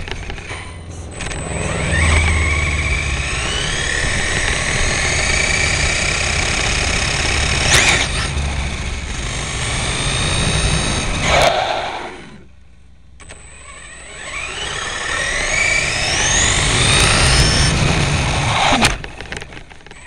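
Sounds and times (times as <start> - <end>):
rc car motor whining: 0.0 - 12.6, 13.2 - 20.0
tyres rumbling on asphalt: 0.0 - 13.3, 14.0 - 20.0.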